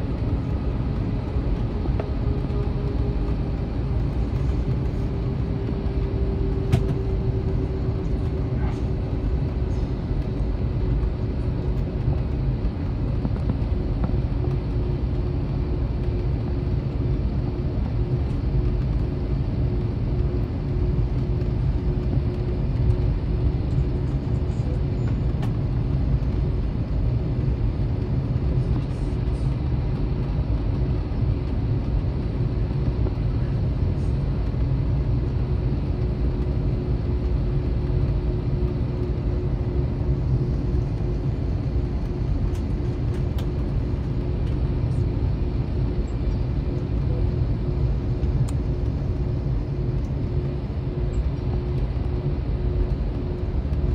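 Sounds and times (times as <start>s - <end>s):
airliner cabin engine rumble: 0.0s - 53.9s
steady hum: 0.0s - 53.9s.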